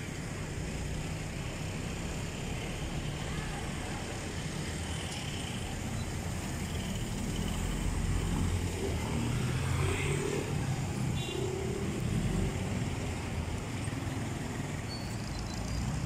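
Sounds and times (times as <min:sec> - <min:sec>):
cars passing: 0:00.0 - 0:16.0
motorcycles passing: 0:00.1 - 0:16.0.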